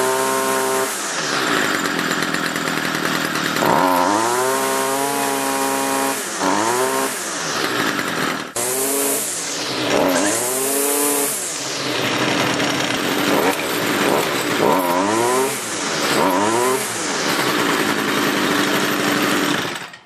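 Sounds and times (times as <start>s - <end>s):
string trimmer engine revving: 0.0s - 20.0s.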